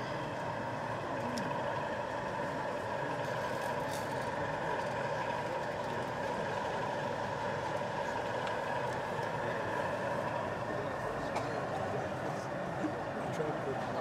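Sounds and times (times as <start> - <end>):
diesel engine sound from small speaker: 0.0 - 14.0.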